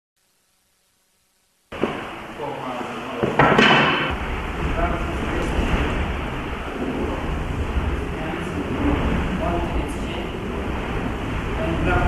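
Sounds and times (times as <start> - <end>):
room noise hiss: 0.2 - 12.0.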